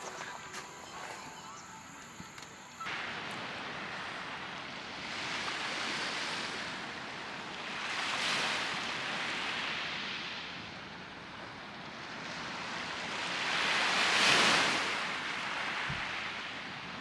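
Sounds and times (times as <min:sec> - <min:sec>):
sea surf washing on shore: 0:02.9 - 0:17.0.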